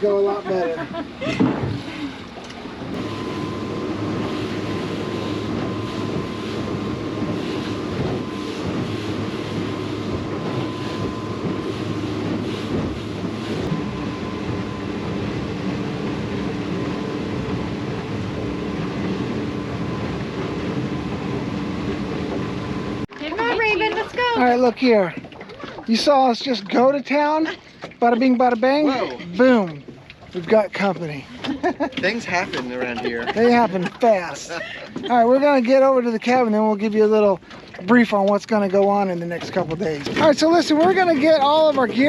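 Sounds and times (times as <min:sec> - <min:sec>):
boat motor running: 0:00.0 - 0:42.0
water noise: 0:00.0 - 0:42.0
wind: 0:00.0 - 0:42.0.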